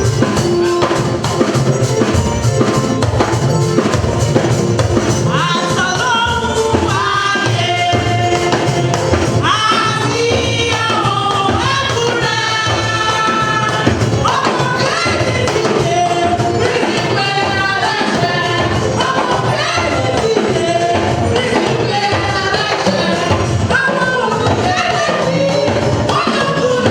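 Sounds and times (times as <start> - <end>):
drums: 0.0 - 26.9
gospel choir singing: 0.0 - 26.9.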